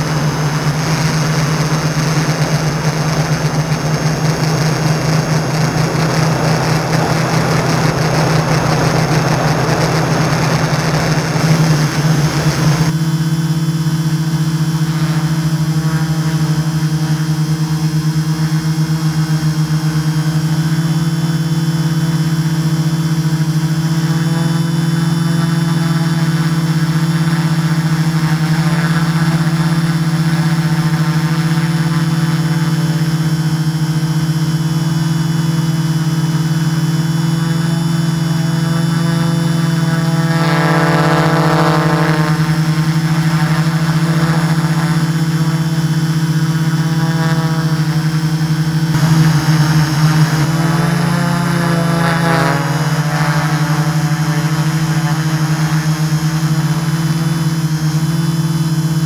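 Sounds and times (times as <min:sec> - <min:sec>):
drone propellers humming: 0:00.0 - 0:59.0
higher whine: 0:00.0 - 0:59.0.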